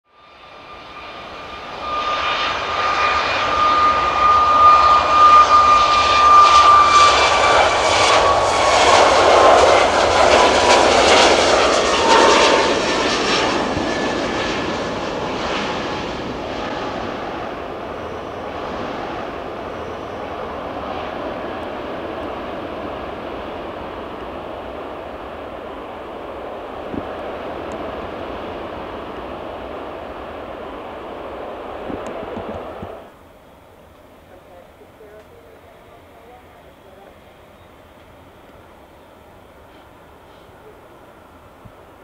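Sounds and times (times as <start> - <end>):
high jet engine whine: 0.1 - 42.0
jet airliner passing by: 0.1 - 42.0.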